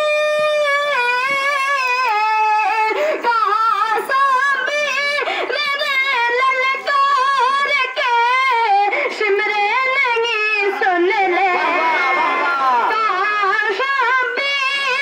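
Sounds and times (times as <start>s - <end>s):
high voice singing with trills: 0.0s - 15.0s.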